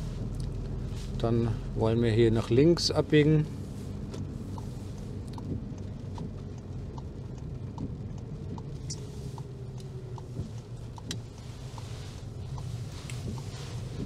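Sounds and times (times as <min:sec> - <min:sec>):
engine and tyre rumble: 0:00.0 - 0:14.0
turn signal ticking: 0:00.2 - 0:14.0.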